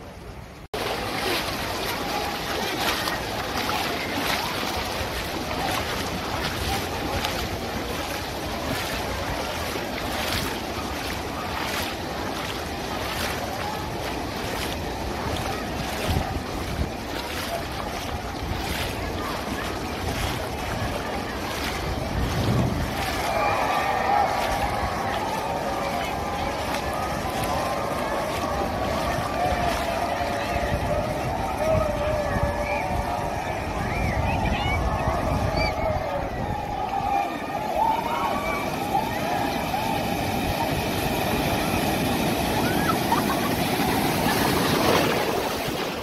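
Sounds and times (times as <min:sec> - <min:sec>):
surf washing over shallows: 0:00.0 - 0:46.0
wind buffeting microphone: 0:00.7 - 0:46.0.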